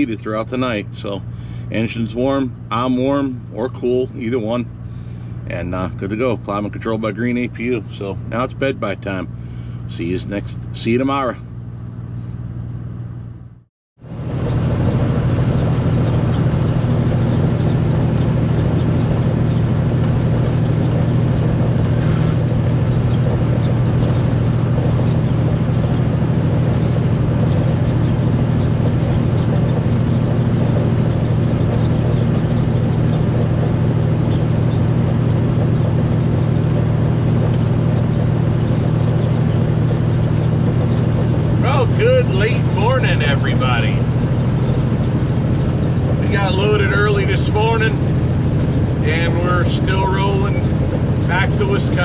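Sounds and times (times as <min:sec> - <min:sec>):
diesel engine drone: 0:00.0 - 0:52.0
road noise: 0:00.0 - 0:52.0.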